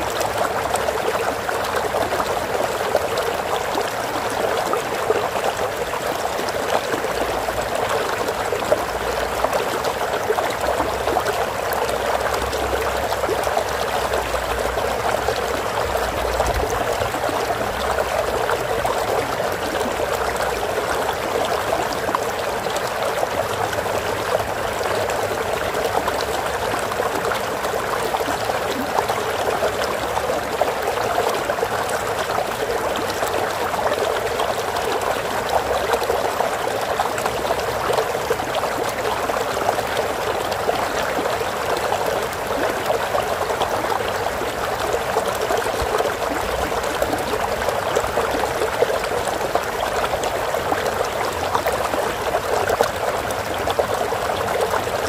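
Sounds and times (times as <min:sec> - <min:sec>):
water flowing over rocks: 0:00.0 - 0:55.0.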